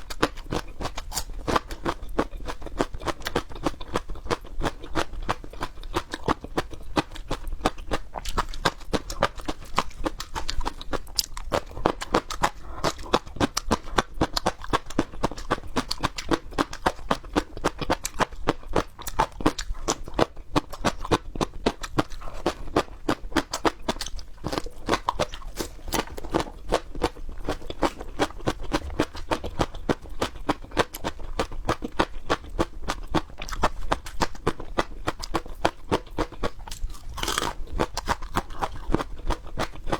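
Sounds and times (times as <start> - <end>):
wet crunchy chewing: 0.0 - 39.9.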